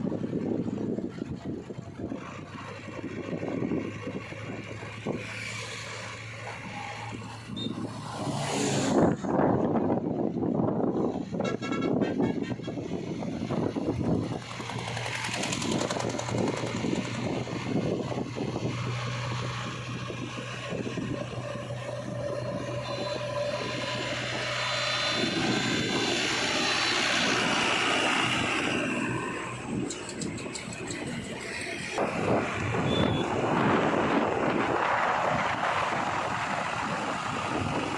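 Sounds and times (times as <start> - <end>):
diesel engine of heavy machinery: 0.0 - 37.9.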